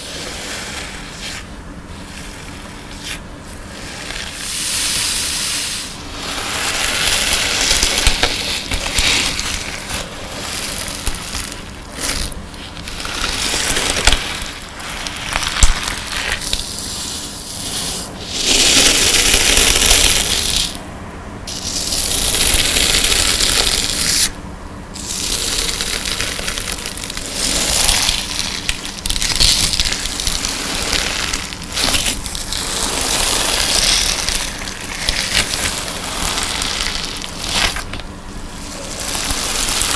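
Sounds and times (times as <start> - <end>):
slime crackling hiss: 0.0 - 20.8, 21.5 - 24.3, 25.0 - 39.9.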